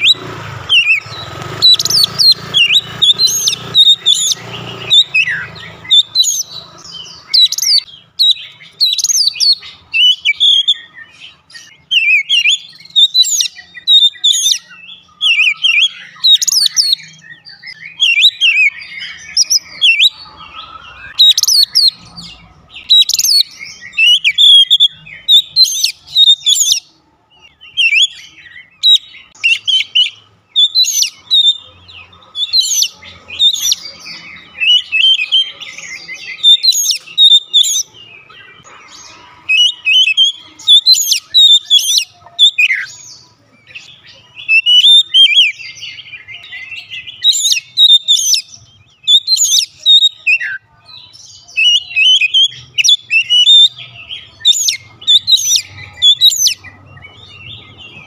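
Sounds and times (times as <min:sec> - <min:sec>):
bird singing whistled phrases: 0:00.0 - 0:26.9, 0:27.5 - 0:31.7, 0:32.4 - 0:38.7, 0:39.5 - 0:58.0.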